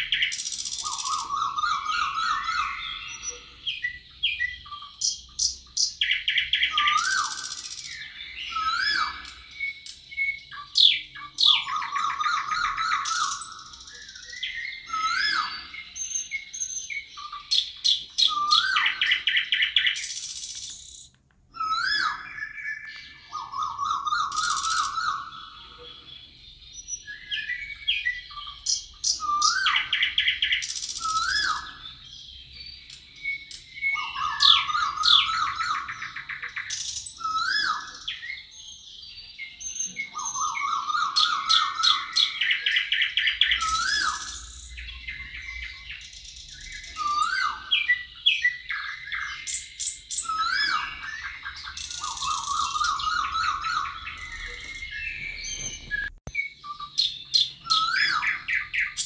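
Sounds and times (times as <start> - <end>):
high buzzy bird chirps: 0.0 - 59.0
low-pitched bird trill: 0.0 - 59.0
rising hooked bird whistles: 0.0 - 59.0.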